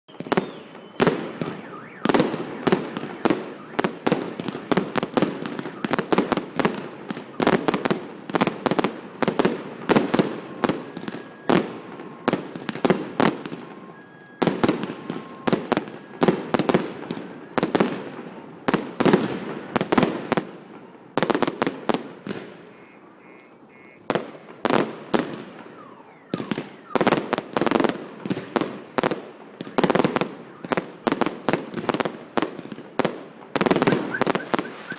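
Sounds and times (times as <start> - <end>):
fireworks banging with echoes: 0.1 - 34.9.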